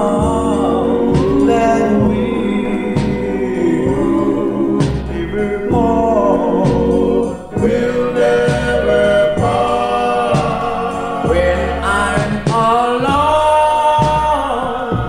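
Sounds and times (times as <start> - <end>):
steady bass line: 0.0 - 15.0
vocal group singing in harmony: 0.0 - 15.0.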